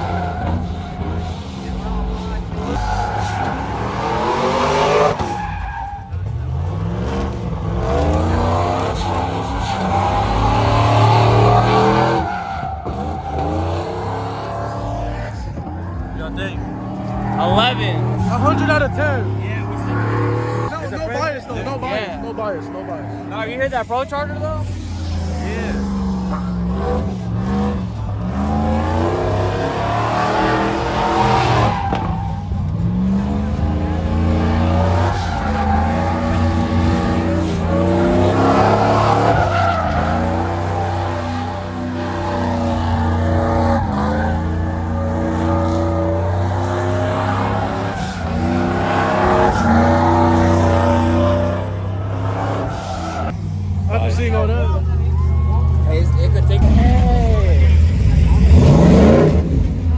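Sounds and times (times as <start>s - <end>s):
tyres squealing: 0.0s - 53.4s
truck engine revving hard: 0.0s - 59.9s.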